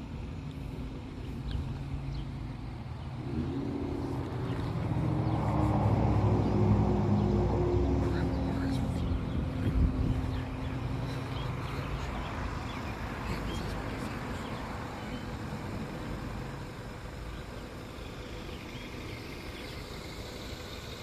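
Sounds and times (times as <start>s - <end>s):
hum of passing cars: 0.0s - 21.0s.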